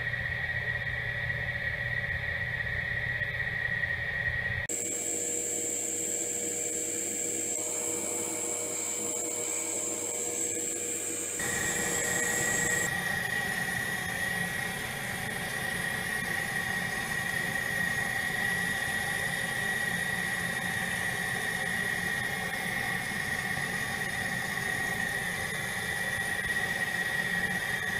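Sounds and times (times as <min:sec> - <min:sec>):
small motor humming and whining: 0:04.6 - 0:27.9.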